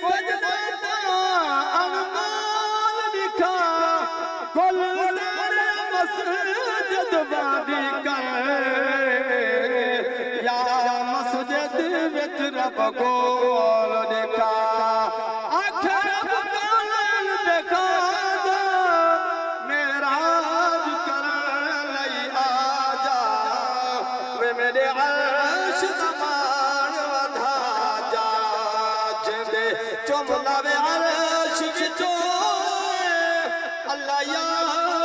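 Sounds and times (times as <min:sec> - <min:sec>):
man singing: 0:00.0 - 0:35.0.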